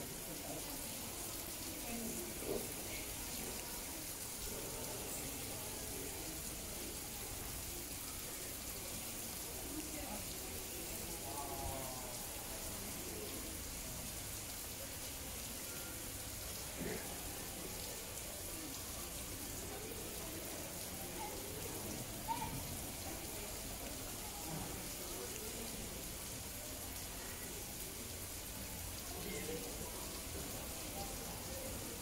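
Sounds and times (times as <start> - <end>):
distant murmur of voices: 0.0 - 32.0.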